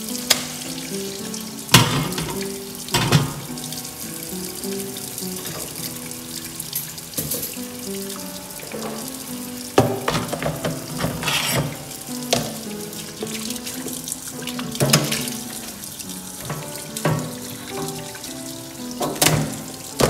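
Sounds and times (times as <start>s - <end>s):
background music sustained notes: 0.0s - 20.0s
tap water pouring into sink: 0.0s - 20.0s.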